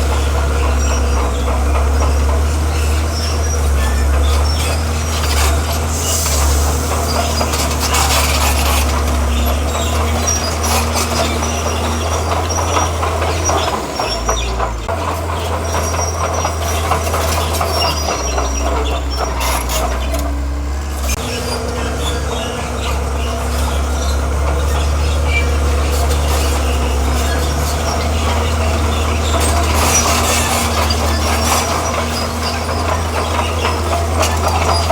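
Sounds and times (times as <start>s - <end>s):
bulldozer diesel engine droning: 0.0s - 34.9s
steel tracks clanking: 0.0s - 34.9s.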